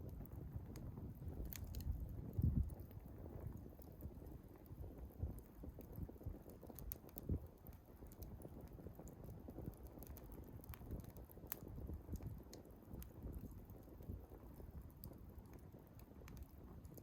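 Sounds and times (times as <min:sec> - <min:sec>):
log fire crackling and popping: 0:00.0 - 0:17.0
low rumble of flames: 0:00.0 - 0:17.0.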